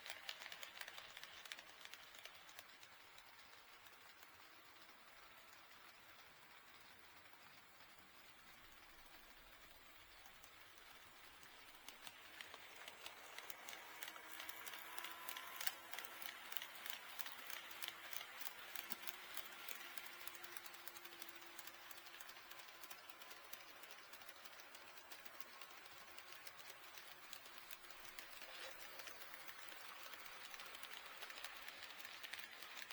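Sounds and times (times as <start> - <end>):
model train wheels clicking: 0.0 - 32.9.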